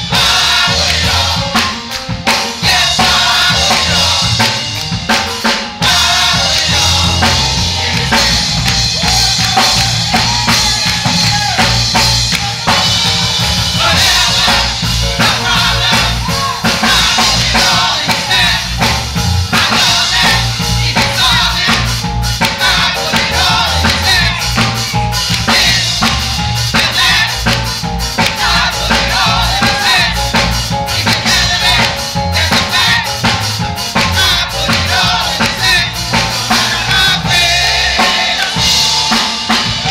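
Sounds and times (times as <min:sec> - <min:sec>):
bass line: 0:00.0 - 0:39.9
drum kit beat: 0:00.0 - 0:39.9.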